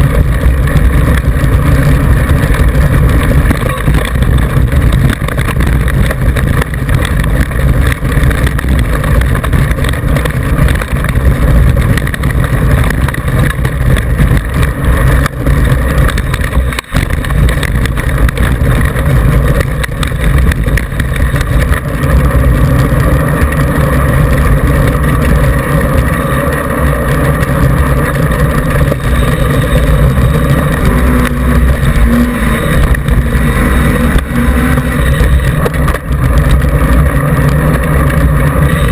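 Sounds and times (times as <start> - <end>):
bike jolting over stones: 0.0 - 38.9.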